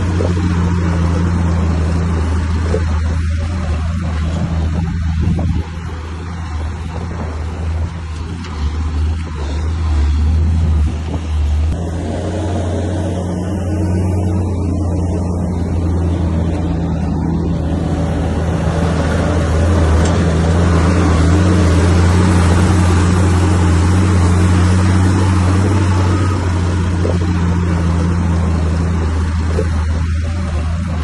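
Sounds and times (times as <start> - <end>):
bulldozer engine droning: 0.0 - 31.0.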